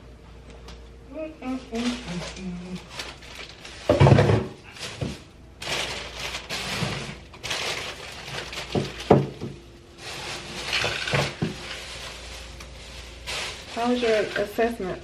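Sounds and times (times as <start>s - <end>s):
rustling: 1.5s - 14.8s.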